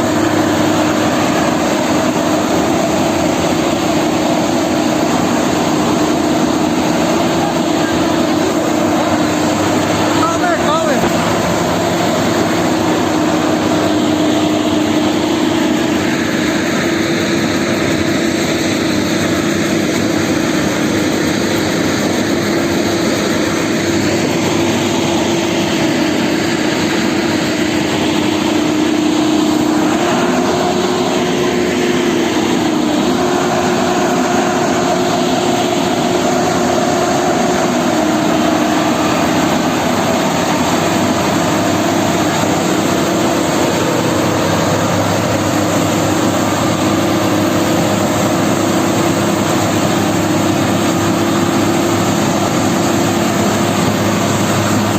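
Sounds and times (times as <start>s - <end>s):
heavy diesel engines droning: 0.0s - 54.9s.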